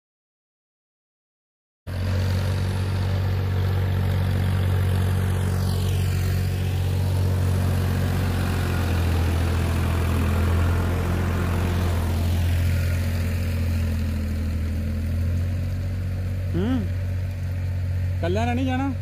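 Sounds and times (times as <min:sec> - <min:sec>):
tractor diesel engine running: 0:01.9 - 0:19.0.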